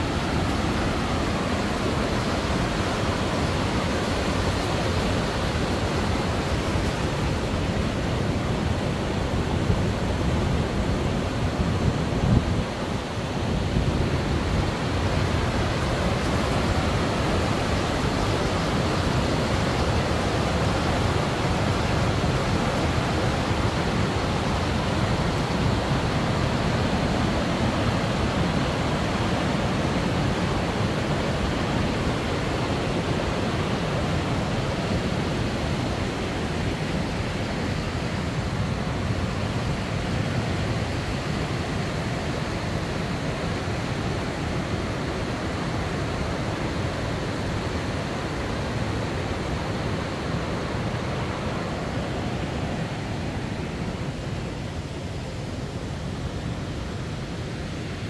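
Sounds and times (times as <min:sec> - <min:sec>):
fast-flowing river water rushing: 0:00.0 - 0:58.0.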